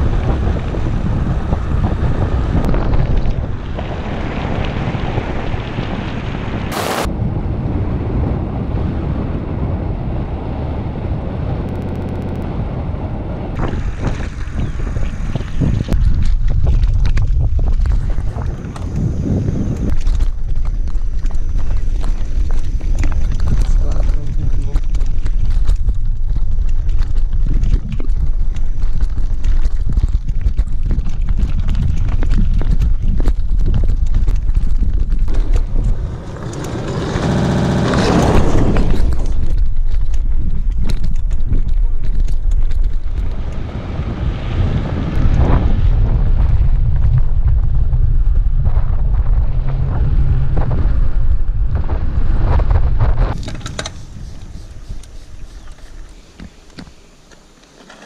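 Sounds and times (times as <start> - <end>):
bike rattling on rough road: 0.0 - 7.1, 13.6 - 58.0
wind buffeting microphone: 0.0 - 57.2.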